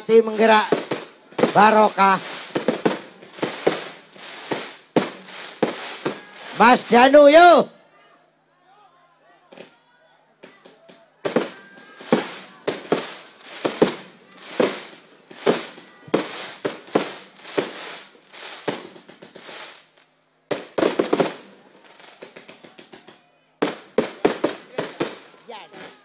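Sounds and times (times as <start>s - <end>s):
fireworks bangs: 0.0s - 7.6s, 10.4s - 26.0s
crackling fireworks reports: 0.0s - 7.7s, 10.4s - 26.0s.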